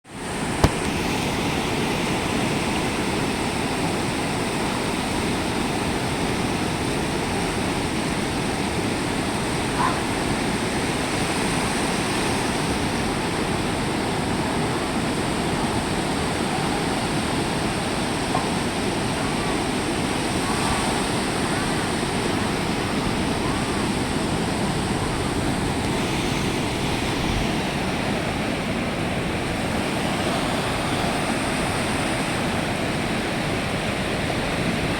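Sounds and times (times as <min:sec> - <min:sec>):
waves breaking on beach: 0:00.1 - 0:34.9.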